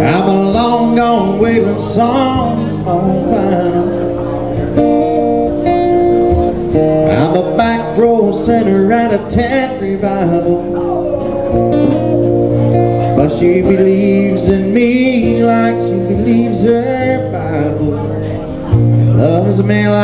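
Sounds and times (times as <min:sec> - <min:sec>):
man singing into a microphone: 0:00.0 - 0:04.8, 0:06.9 - 0:12.2, 0:12.9 - 0:20.0
acoustic guitar strumming: 0:00.0 - 0:20.0.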